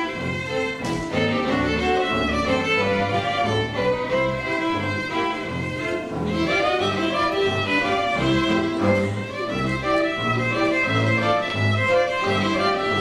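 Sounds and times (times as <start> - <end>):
double bass notes: 0.0 - 13.0
violins playing melody: 0.0 - 13.0.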